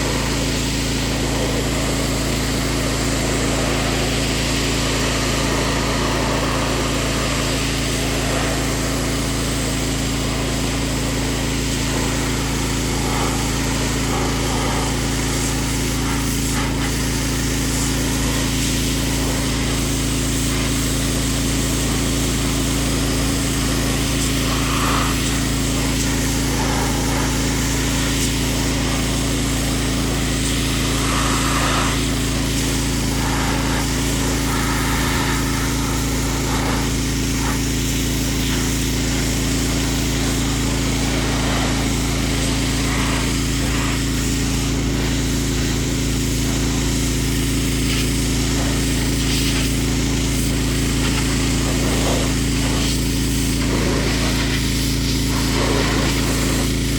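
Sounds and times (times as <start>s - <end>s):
hiss of water spray: 0.0s - 56.9s
small engine running: 0.0s - 56.9s.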